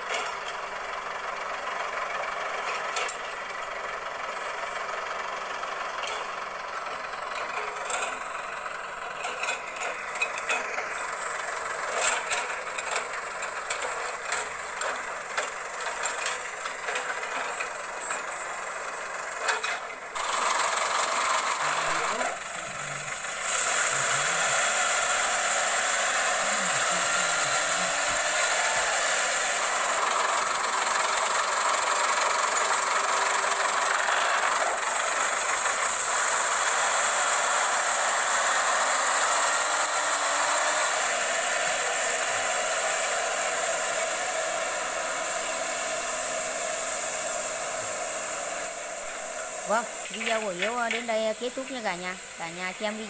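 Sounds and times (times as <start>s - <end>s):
dump truck running: 0.0s - 53.0s.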